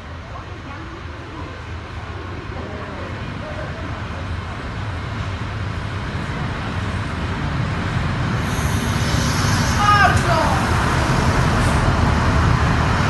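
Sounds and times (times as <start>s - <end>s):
diesel railcar engine rumbling: 0.0s - 13.0s.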